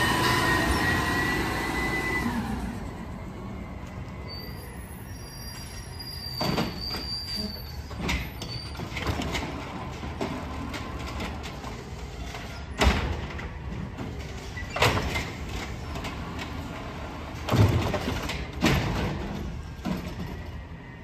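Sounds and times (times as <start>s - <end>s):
garbage truck hydraulics whining: 0.0s - 21.0s.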